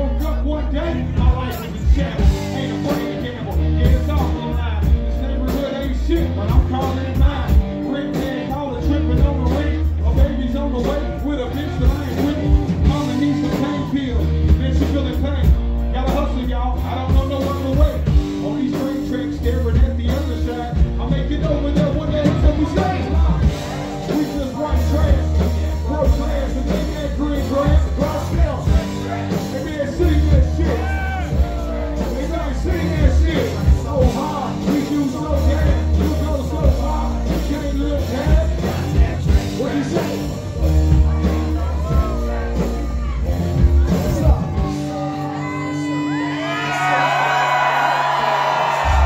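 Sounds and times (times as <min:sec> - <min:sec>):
man singing into microphone: 0:00.0 - 0:47.3
loud live music with bass beat: 0:00.0 - 0:49.0.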